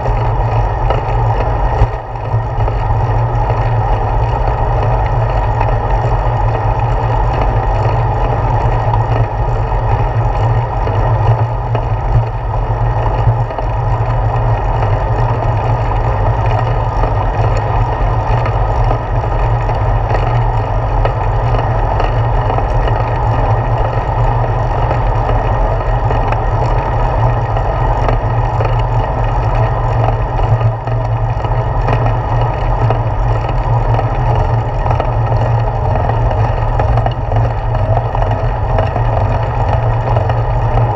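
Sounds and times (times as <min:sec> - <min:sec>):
bicycle road rumble: 0:00.0 - 0:40.9.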